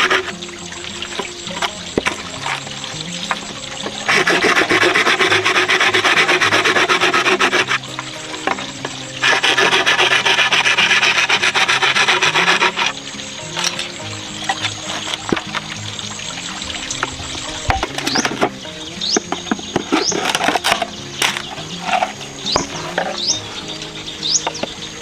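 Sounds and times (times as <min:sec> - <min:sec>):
rapid rasping scrape: 0:00.0 - 0:25.0.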